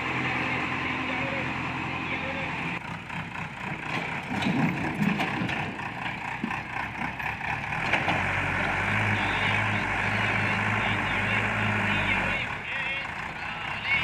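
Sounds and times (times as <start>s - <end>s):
diesel engine running: 0.0s - 14.0s
engine knocks: 2.6s - 14.0s.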